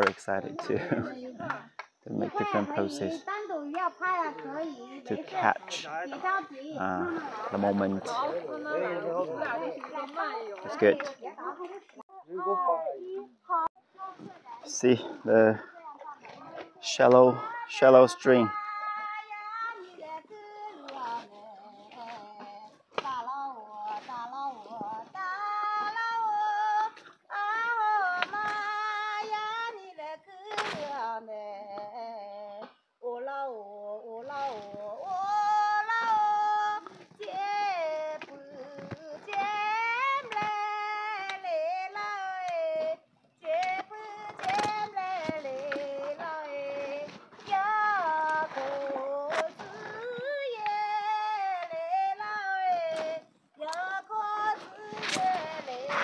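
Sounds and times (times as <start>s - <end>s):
woman singing unaccompanied: 6.1s - 12.6s, 17.4s - 56.0s.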